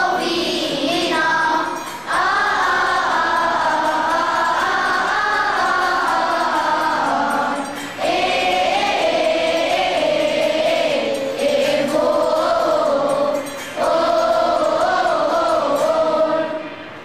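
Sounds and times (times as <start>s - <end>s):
children singing a hymn: 0.0s - 17.0s.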